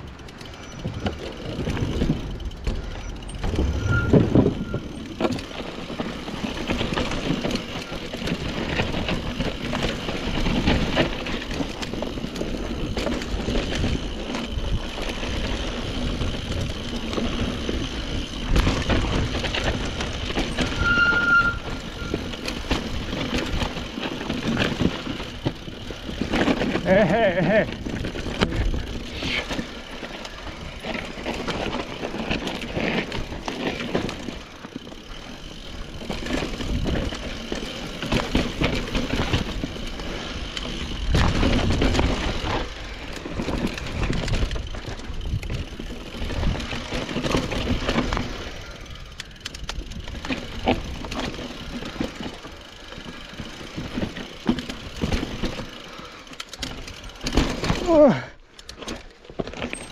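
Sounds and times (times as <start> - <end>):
bike knocks and rattles: 0.0 - 59.9
bike tyre noise on dirt: 0.0 - 59.9.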